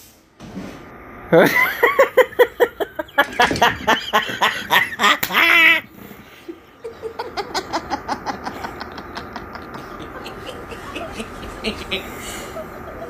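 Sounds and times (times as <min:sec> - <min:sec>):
person laughing hard: 0:01.3 - 0:13.0.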